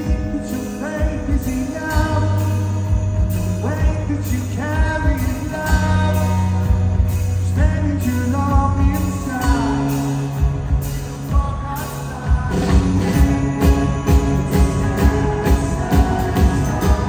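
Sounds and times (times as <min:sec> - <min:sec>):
man singing: 0:00.0 - 0:17.0
steady drumbeat: 0:00.0 - 0:17.0.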